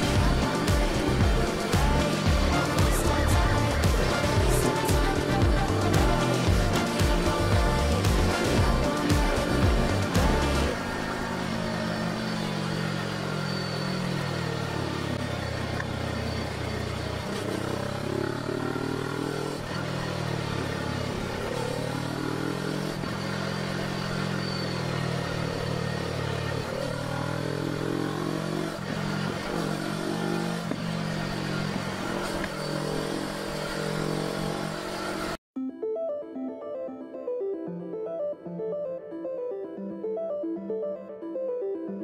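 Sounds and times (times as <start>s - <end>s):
motorcycle engine revving: 0.0s - 35.4s.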